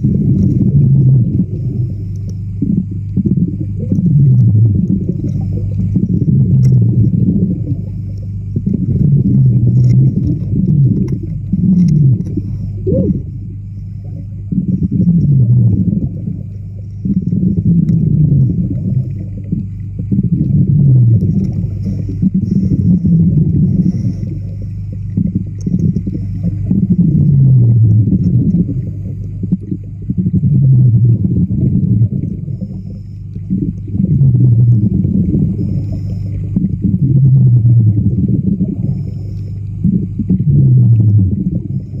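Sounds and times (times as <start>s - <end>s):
underwater low hum: 0.0s - 42.0s.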